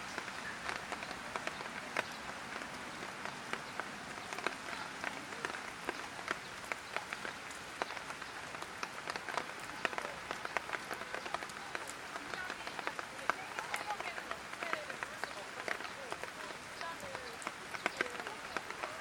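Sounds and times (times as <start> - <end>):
light rain hiss: 0.0 - 19.0
raindrops tapping on surfaces: 0.0 - 19.0.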